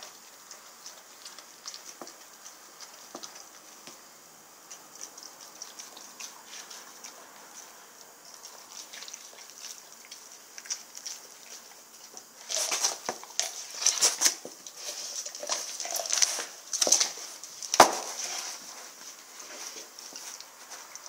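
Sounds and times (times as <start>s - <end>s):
dog chewing bone: 0.0s - 21.0s.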